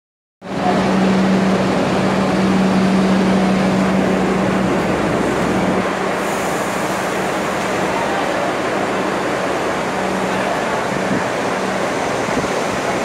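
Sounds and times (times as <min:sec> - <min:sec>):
subway train motor and wheels: 0:00.4 - 0:13.0.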